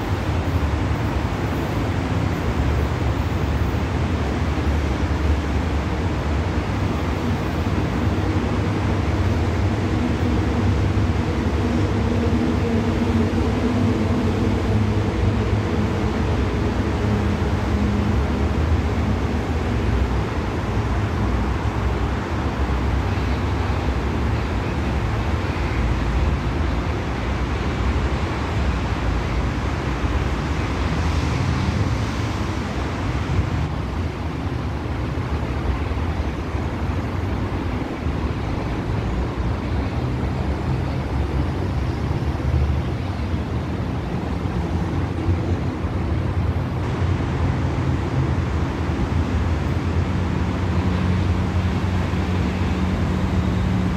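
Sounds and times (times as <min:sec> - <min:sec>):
outdoor noise: 0:00.0 - 0:53.9
train engine humming: 0:00.0 - 0:53.9.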